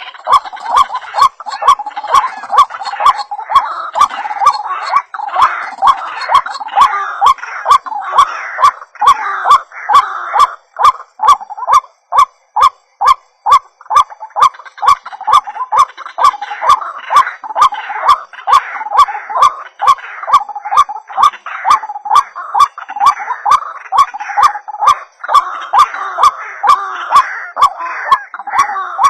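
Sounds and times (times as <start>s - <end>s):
waterhen calling rapidly: 0.0s - 29.0s.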